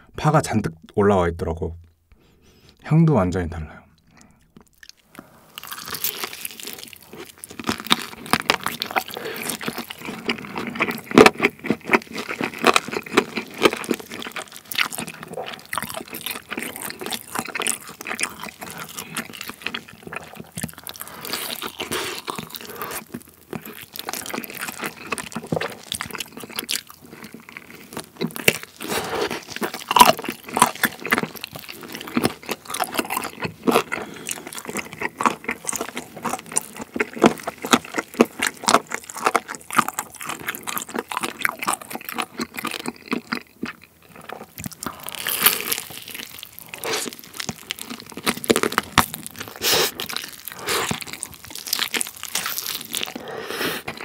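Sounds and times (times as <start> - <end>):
wet sticky chewing: 3.9 - 54.0
crunching fried chicken: 4.5 - 54.0.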